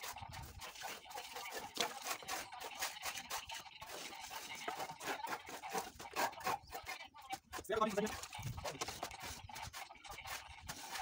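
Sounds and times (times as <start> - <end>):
trowel scraping mortar: 0.0 - 11.0.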